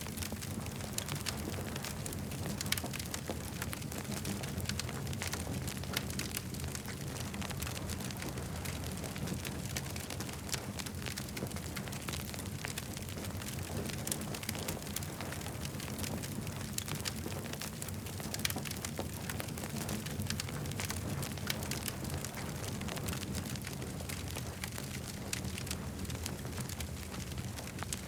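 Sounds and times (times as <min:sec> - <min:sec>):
campfire crackling and popping: 0:00.0 - 0:28.0
fire low rumble: 0:00.0 - 0:28.0.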